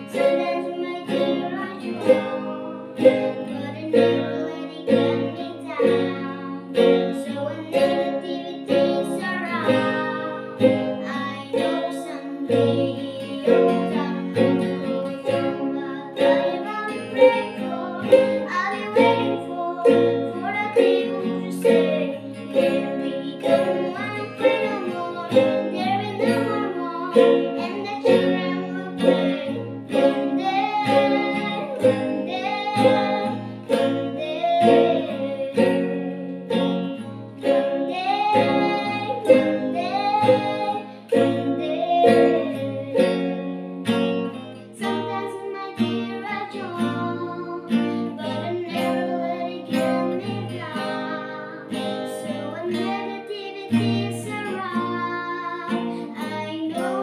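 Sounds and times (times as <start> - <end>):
acoustic guitar chords: 0.0 - 57.0
girl singing: 0.0 - 57.0
ukulele chords: 0.0 - 57.0.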